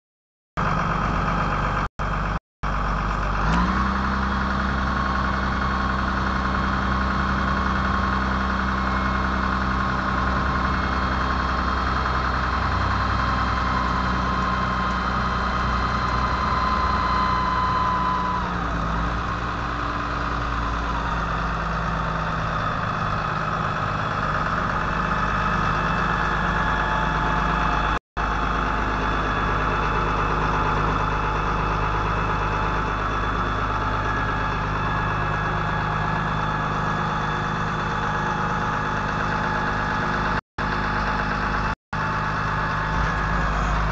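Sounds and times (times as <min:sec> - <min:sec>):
truck engine running: 0:00.6 - 0:43.9
hydraulic hoist whine: 0:03.0 - 0:43.9.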